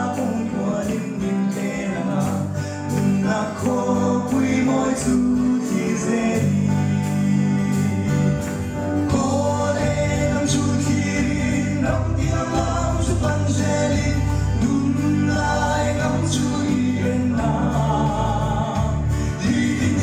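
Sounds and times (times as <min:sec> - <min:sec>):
man singing through a pa: 0:00.0 - 0:08.5, 0:09.1 - 0:20.0.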